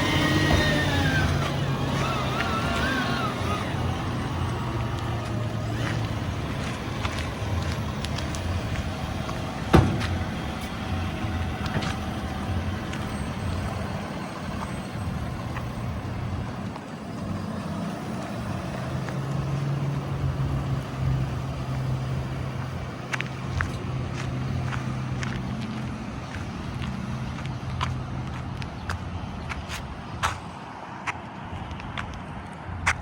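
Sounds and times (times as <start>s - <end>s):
diesel construction equipment running: 0.0s - 33.0s.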